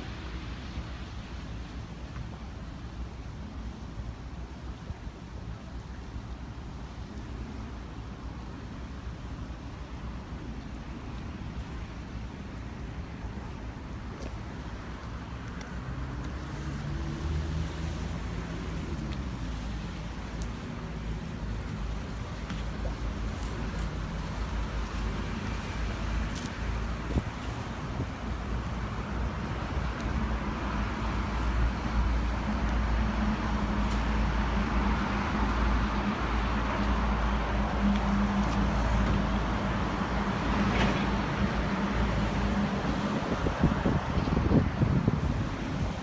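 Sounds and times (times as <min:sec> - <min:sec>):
steady engine hum: 0:00.0 - 0:46.0
wind: 0:00.0 - 0:46.0.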